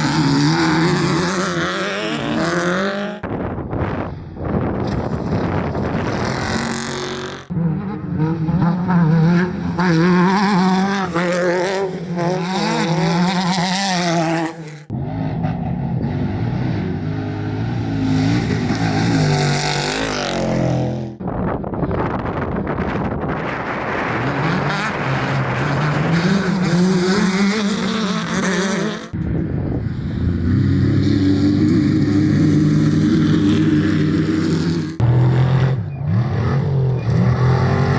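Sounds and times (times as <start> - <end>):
off-road engines revving high: 0.0 - 3.4, 4.8 - 21.2, 23.2 - 37.9.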